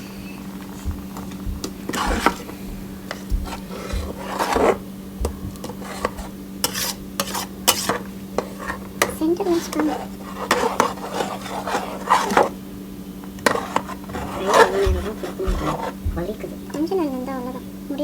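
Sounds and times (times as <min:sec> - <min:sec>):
steady low hum: 0:00.0 - 0:18.0
spoon scraping cooking pot: 0:00.4 - 0:12.6, 0:13.3 - 0:16.9.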